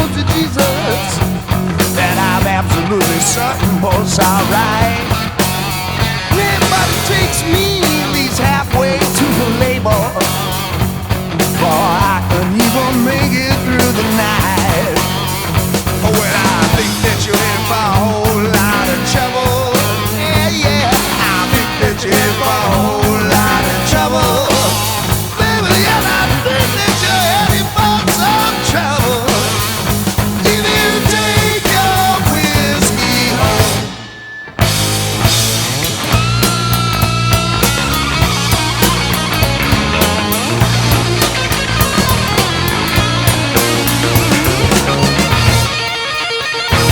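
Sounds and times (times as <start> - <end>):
rock music: 0.0 - 46.9.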